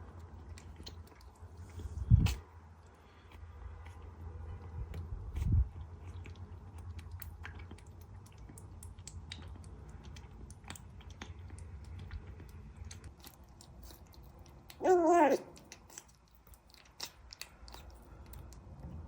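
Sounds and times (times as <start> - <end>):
kitten chewing: 0.0 - 19.0
low steady hum: 0.0 - 19.0.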